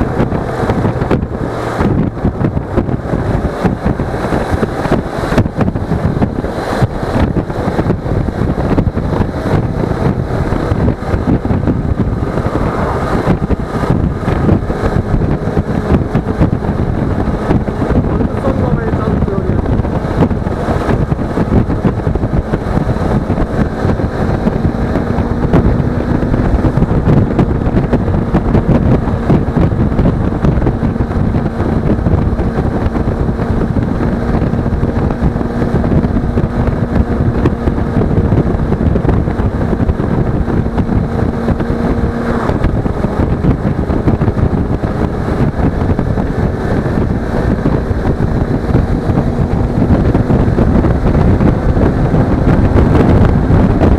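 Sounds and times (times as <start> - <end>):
heavy wind noise: 0.0 - 53.9
motorcycle engine running: 0.0 - 53.9.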